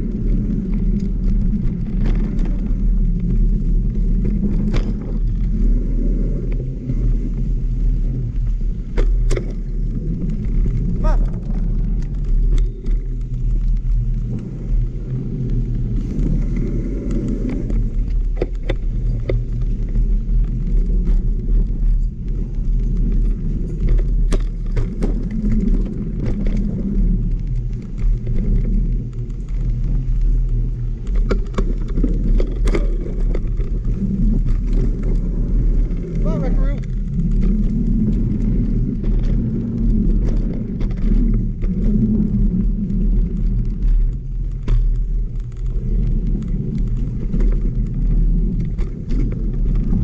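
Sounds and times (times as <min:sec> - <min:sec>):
bike clicking and rattling: 0:00.0 - 0:50.0
wind and tyre rumble: 0:00.0 - 0:50.0.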